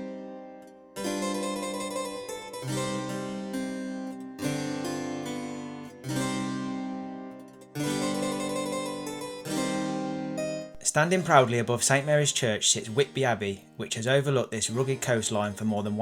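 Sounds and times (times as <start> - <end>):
harpsichord-like keyboard chords: 0.0 - 16.0.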